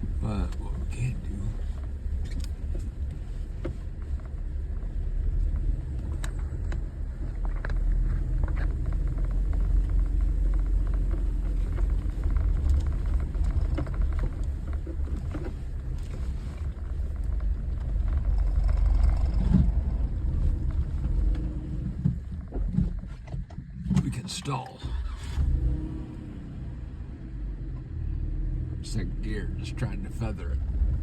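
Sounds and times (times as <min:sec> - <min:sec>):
low engine rumble: 0:00.0 - 0:31.0.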